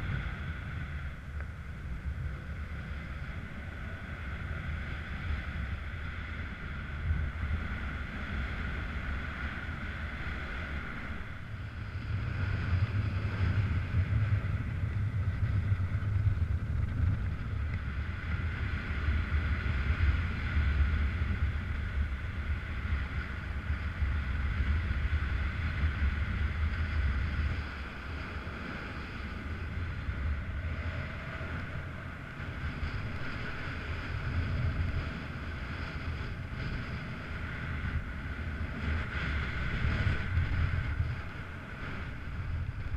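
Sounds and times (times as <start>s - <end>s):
wind buffeting microphone: 0.0s - 42.9s
wind hiss: 0.0s - 42.9s.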